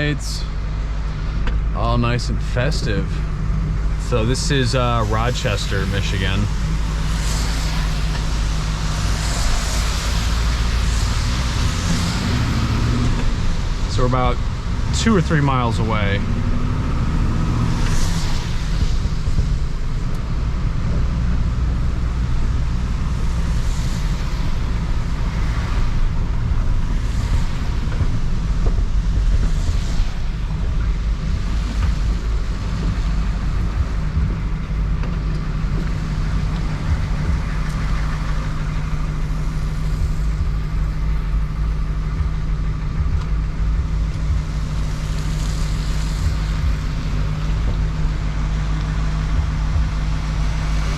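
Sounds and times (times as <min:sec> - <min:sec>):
passing traffic whooshes: 0:00.0 - 0:50.9
pickup truck driving: 0:00.0 - 0:50.9.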